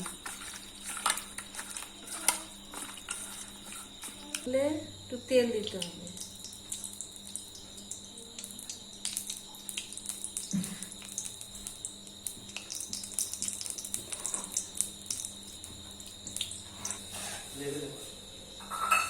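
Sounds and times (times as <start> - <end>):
oil crackling in pan: 0.0 - 4.5, 5.6 - 17.4.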